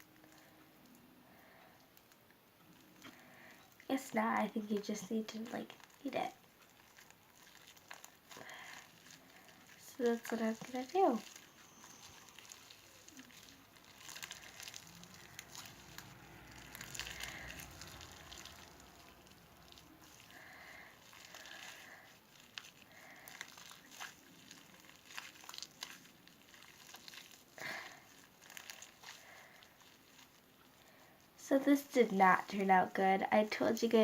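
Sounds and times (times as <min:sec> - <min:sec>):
sticky clicks of kneaded slime: 0:01.7 - 0:30.9.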